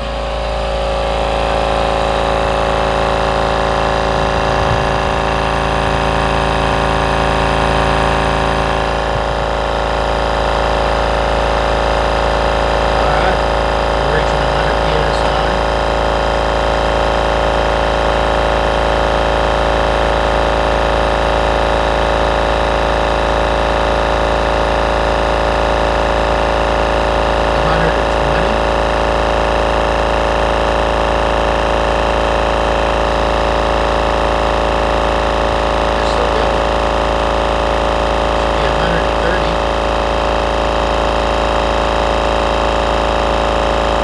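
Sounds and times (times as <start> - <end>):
air compressor running: 0.0 - 44.0.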